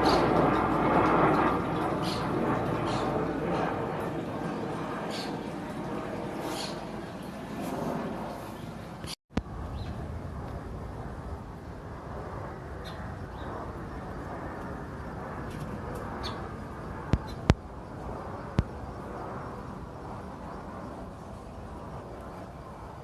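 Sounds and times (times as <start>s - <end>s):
aircraft rumble overhead: 0.0s - 23.0s.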